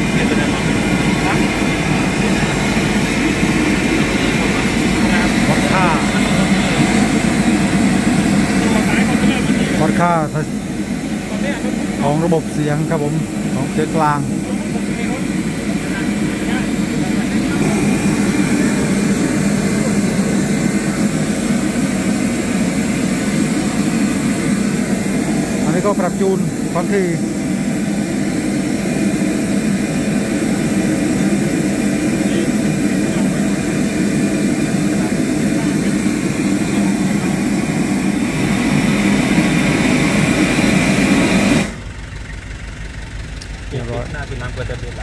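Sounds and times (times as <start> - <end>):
generator engine running: 0.0 - 45.0.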